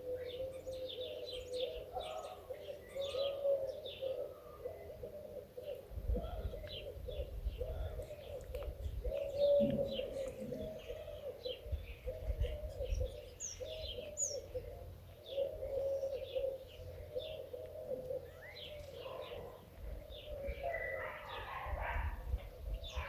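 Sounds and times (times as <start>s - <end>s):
doves cooing: 0.0s - 23.0s
small birds chirping: 0.0s - 23.0s.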